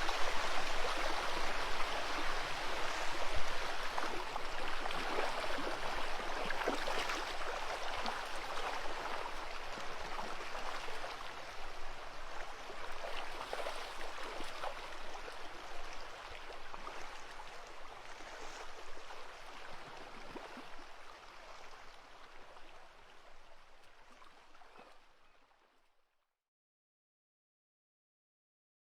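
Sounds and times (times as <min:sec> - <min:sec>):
stream water running: 0:00.0 - 0:25.3.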